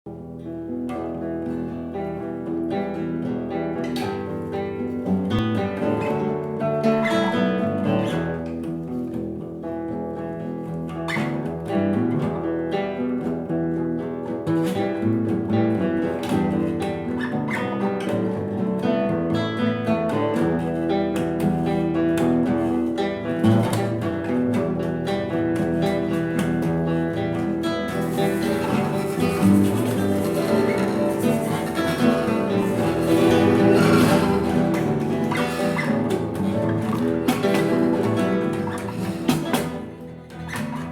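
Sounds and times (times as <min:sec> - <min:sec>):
picked guitar notes: 0:00.1 - 0:40.9.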